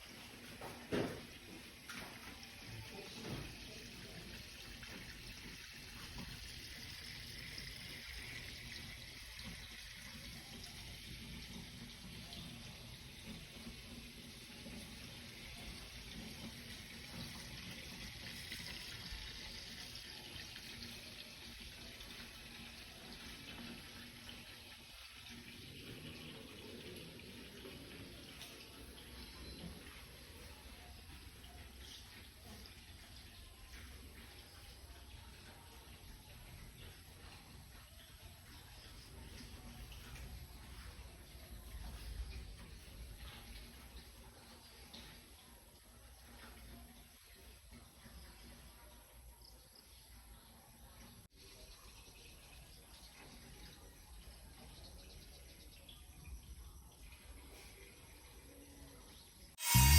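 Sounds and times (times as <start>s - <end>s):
tap water running into sink: 0.0s - 49.0s.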